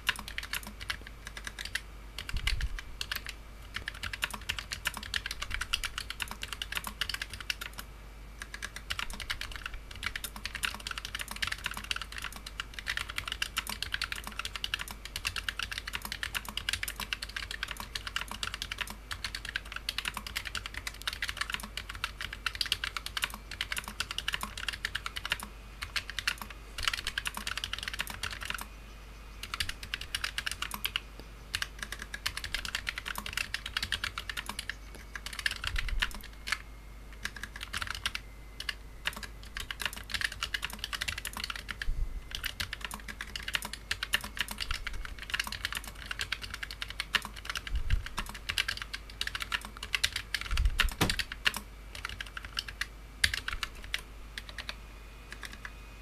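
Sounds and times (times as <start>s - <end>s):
keyboard typing clicks: 0.0s - 28.7s, 29.4s - 55.7s.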